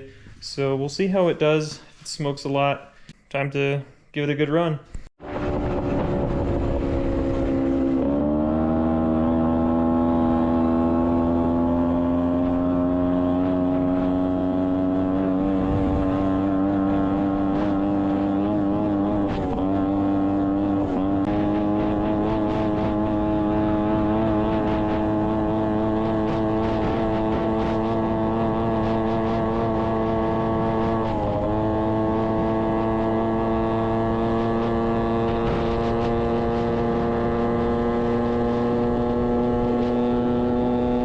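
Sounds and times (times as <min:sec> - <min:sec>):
two-stroke engine under load: 0:05.2 - 0:41.0.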